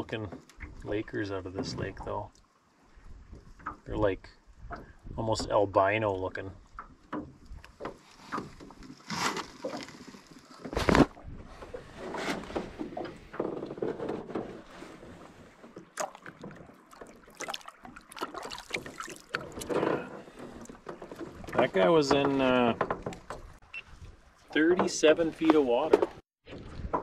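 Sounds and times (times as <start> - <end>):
water sounds: 0.0 - 27.0.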